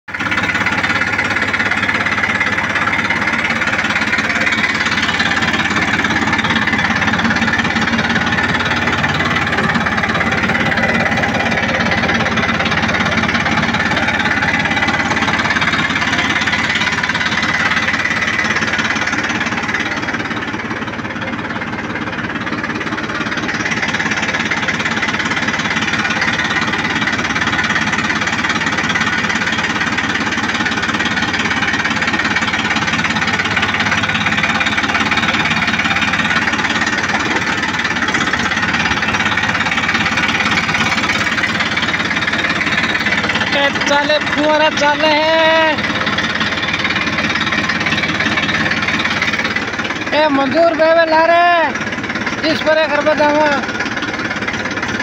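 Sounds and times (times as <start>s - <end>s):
tractor diesel engine knocking: 0.0s - 55.0s.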